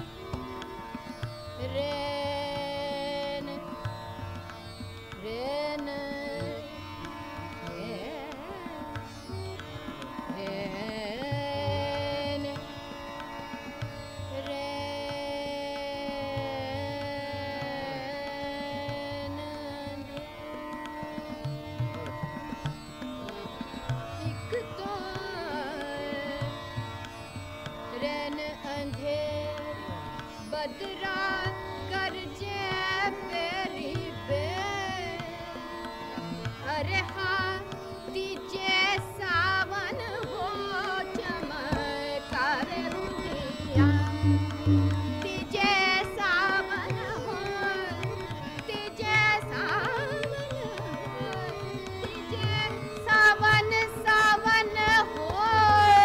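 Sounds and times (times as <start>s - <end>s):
harmonium: 0.0s - 56.0s
tabla strokes: 0.0s - 56.0s
woman singing: 1.6s - 4.0s, 5.2s - 9.4s, 10.2s - 12.9s, 14.3s - 22.3s, 24.2s - 26.8s, 27.9s - 56.0s.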